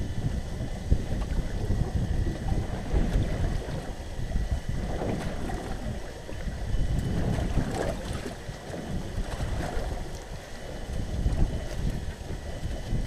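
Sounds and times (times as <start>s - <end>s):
waves slapping boat hull: 0.0s - 13.0s
wind rumbling on microphone: 0.0s - 13.0s.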